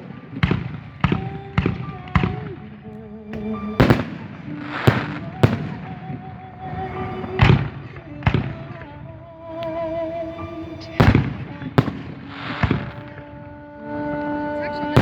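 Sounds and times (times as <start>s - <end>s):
fireworks bangs echoing: 0.0s - 9.1s, 10.4s - 15.0s.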